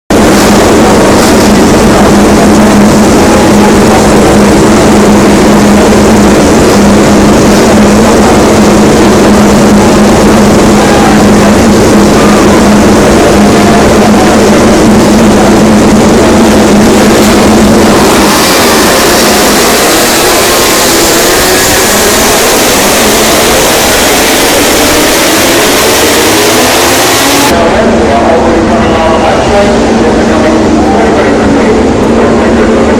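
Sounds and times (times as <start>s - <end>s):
racing motorcycle engine: 0.1s - 27.8s.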